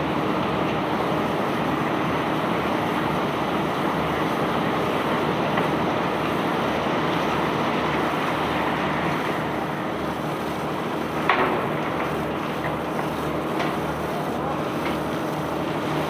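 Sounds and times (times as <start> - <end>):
unloading machinery running: 0.0 - 16.0.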